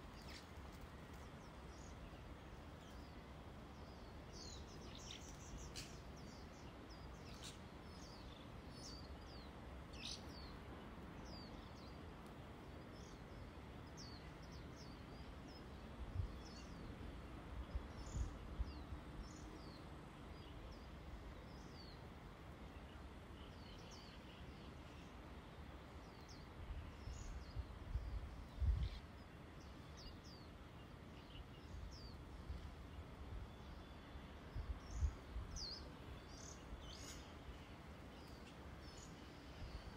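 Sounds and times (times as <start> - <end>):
outdoor hiss: 0.0 - 39.9
small birds chirping: 0.0 - 39.9.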